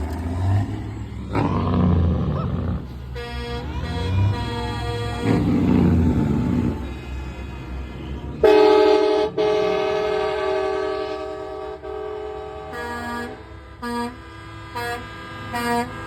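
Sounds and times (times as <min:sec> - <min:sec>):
low engine rumble: 0:00.0 - 0:16.0
truck air horn blast: 0:02.9 - 0:16.0.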